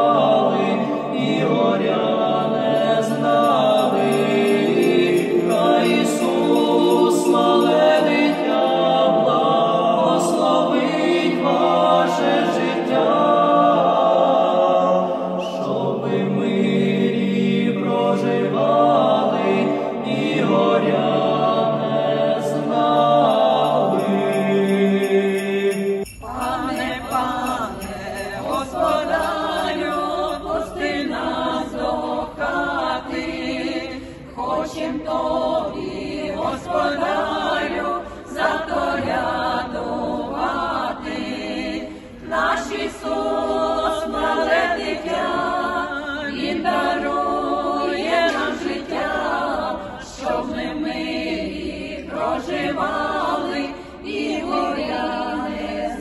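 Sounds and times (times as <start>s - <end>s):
group singing unaccompanied: 0.0s - 56.0s.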